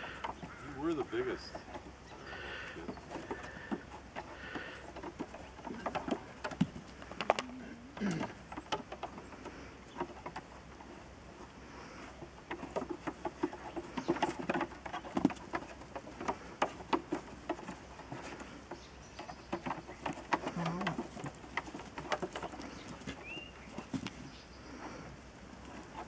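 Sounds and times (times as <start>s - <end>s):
hooves clattering on wood: 0.0s - 26.0s.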